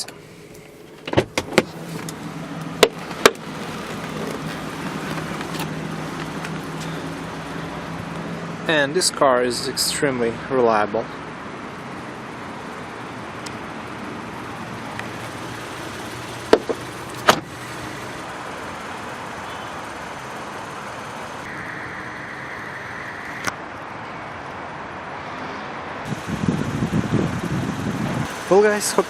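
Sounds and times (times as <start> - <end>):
traffic background noise: 0.0 - 29.0.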